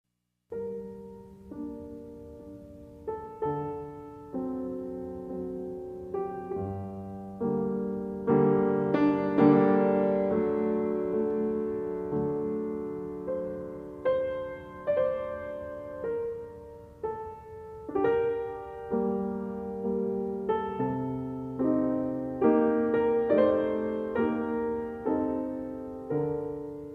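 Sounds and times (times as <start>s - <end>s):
gentle piano music: 0.5s - 26.9s.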